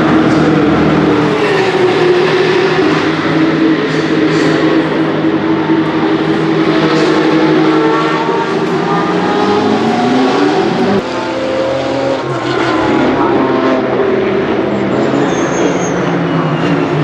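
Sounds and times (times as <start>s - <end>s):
race car engines at speed: 0.0s - 17.0s.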